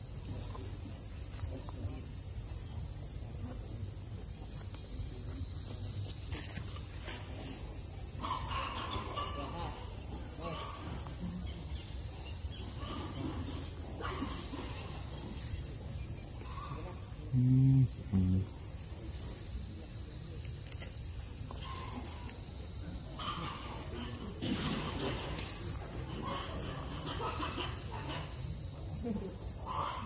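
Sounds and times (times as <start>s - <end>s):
forest insects droning: 0.0s - 30.0s.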